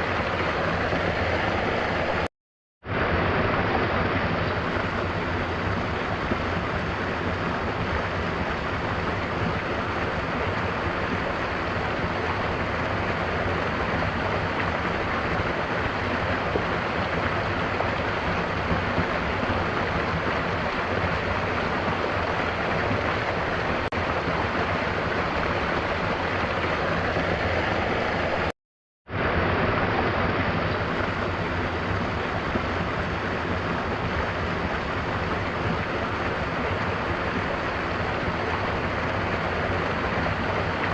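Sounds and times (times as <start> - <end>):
waterfall rushing: 0.0 - 2.3, 2.9 - 28.5, 29.1 - 40.9.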